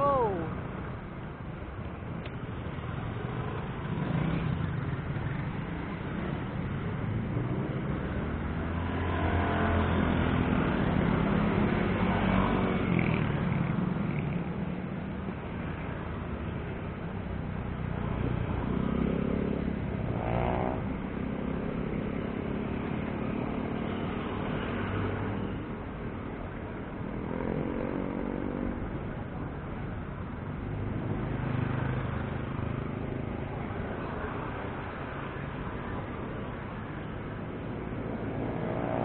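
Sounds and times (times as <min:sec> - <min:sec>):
motorcycle engines passing: 0:00.0 - 0:00.8, 0:02.4 - 0:39.0
background traffic noise: 0:00.0 - 0:39.0.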